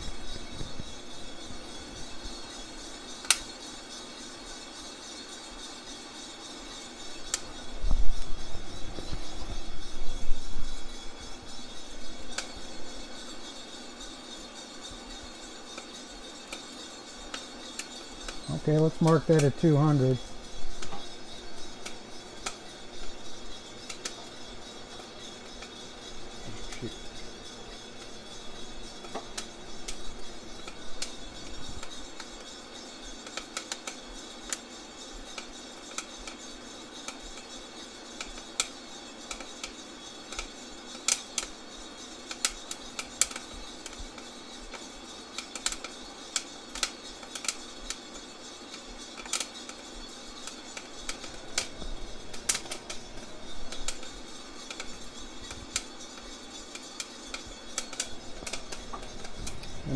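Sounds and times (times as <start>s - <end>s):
roaster running noise: 0.0s - 59.9s.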